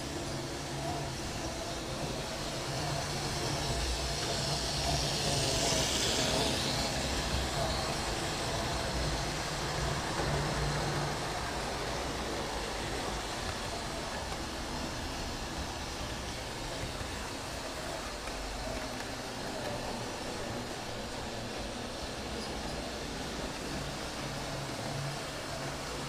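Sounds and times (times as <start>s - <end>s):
model trains rumbling on rails: 0.0s - 26.0s.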